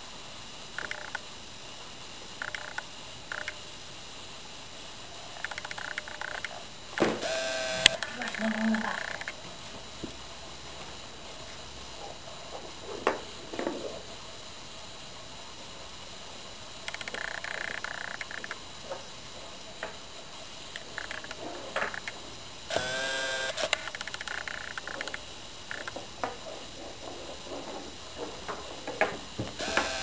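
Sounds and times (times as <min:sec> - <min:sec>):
soft hiss: 0:00.0 - 0:30.0.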